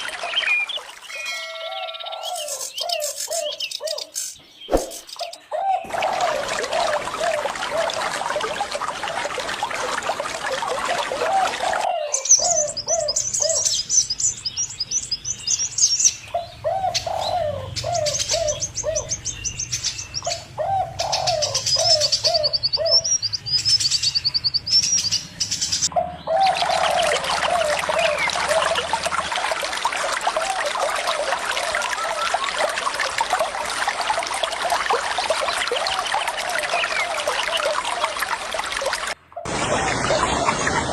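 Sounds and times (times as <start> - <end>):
flowing water: 0.0 - 3.6, 4.7 - 40.9.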